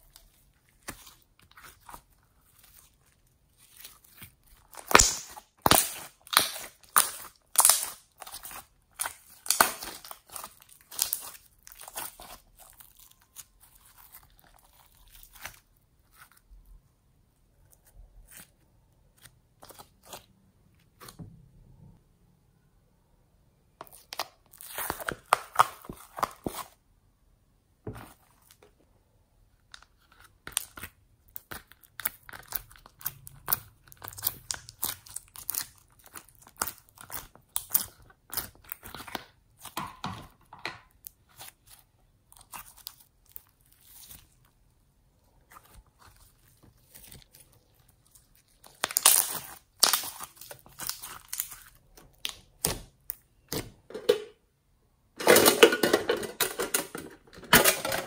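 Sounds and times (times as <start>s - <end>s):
hands squishing sticky slime: 0.0s - 21.3s, 23.8s - 26.8s, 29.6s - 39.8s, 40.4s - 53.8s.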